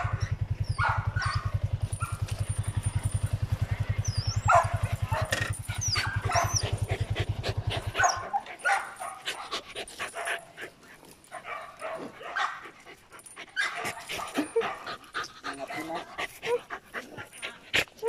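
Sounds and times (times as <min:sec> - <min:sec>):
motorcycle engine idling: 0:00.0 - 0:17.7
dog whining and yipping: 0:00.0 - 0:18.0.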